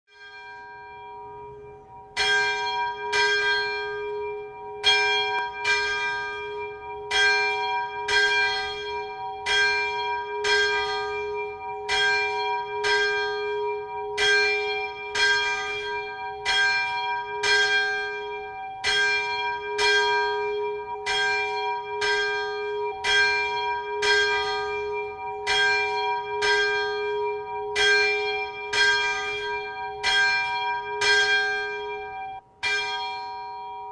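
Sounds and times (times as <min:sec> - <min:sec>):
church bell tolling: 0:00.1 - 0:33.9.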